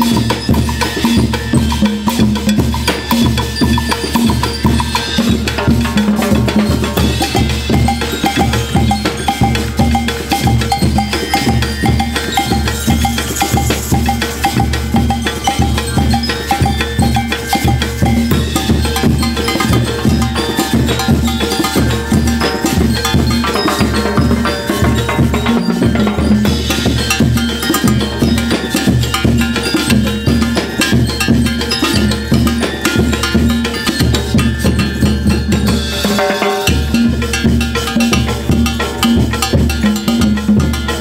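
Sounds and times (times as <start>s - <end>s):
cowbell: 0.0s - 41.0s
marching band playing: 0.0s - 41.0s.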